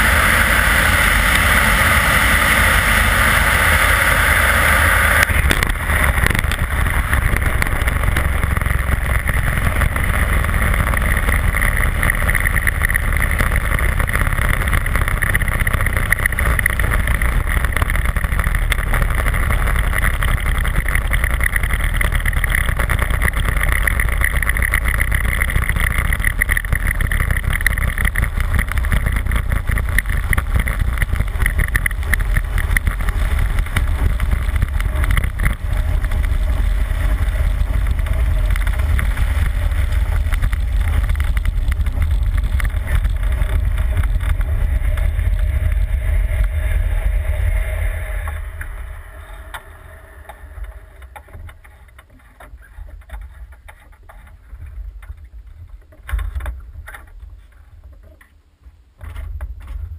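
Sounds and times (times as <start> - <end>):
propeller aircraft engine drone: 0.0 - 55.2
wind rushing over camera: 0.0 - 59.9.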